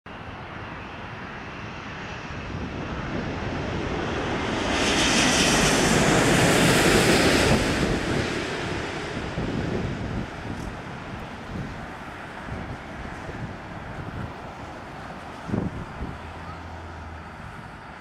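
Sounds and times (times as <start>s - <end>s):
jet airliner rumble overhead: 0.1s - 18.0s.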